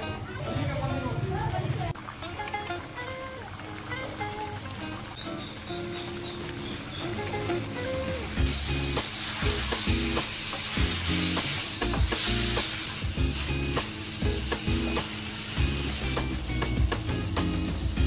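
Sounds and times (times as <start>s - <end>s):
background music: 0.0s - 18.0s
chicken livers sizzling in a wok: 2.2s - 18.0s.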